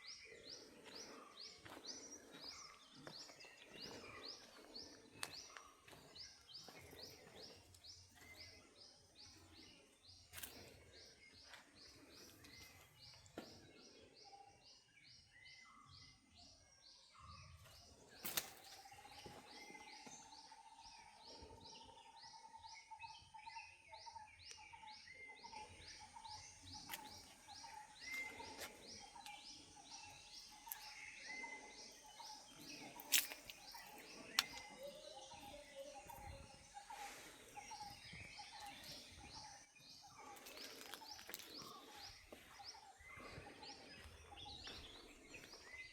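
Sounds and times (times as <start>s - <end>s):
faint birds chirping: 0.0s - 45.9s.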